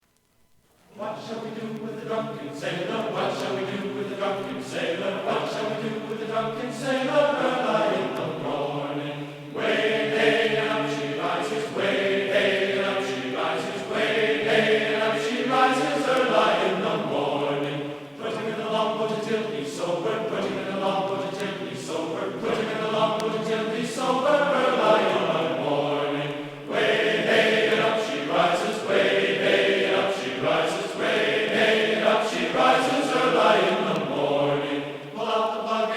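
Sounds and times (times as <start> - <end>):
choir chanting held notes: 0.9 - 35.9.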